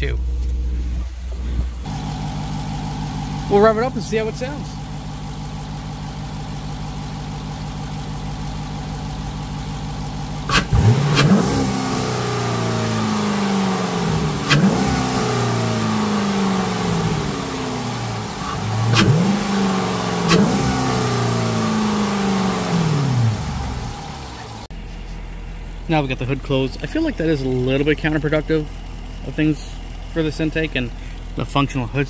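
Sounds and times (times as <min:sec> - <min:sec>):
car engine idling and revving: 0:00.0 - 0:32.0
engine intake sound: 0:00.0 - 0:32.0.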